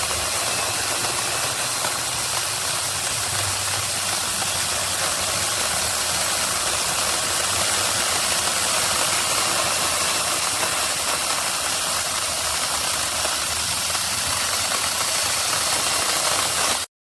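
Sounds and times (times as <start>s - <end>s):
electric chainsaw running: 0.0s - 16.9s.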